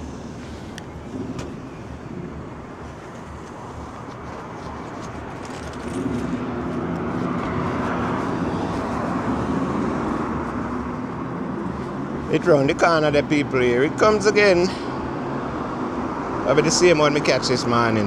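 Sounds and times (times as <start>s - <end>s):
bus engine approaching: 0.0s - 18.0s.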